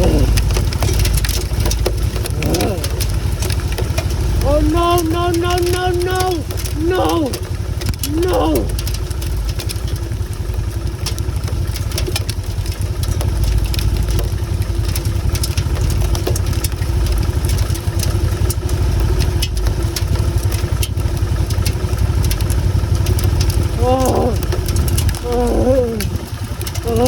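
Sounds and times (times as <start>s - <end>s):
motorcycle engine running: 0.0s - 27.0s
small sharp ticks: 0.0s - 27.0s.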